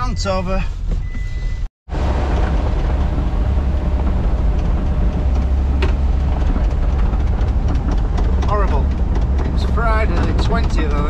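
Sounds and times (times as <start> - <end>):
digger diesel engine running: 1.9 - 11.0.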